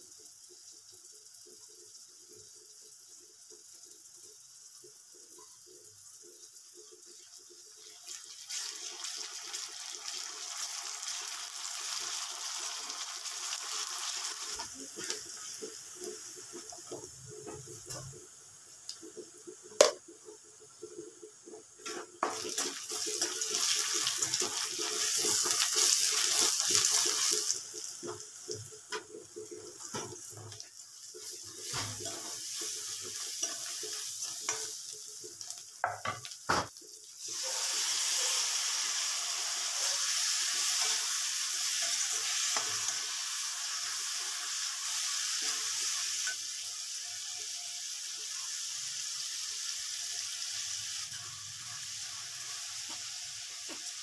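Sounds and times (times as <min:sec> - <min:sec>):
oil sizzling in a metal pan: 0:00.0 - 0:54.0.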